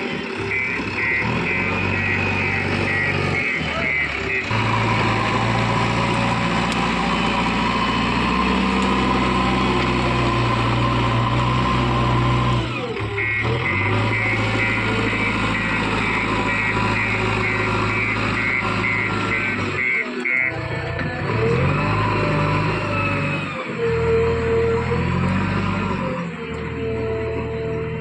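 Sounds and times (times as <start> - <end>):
heavy diesel engine under load: 0.0 - 28.0.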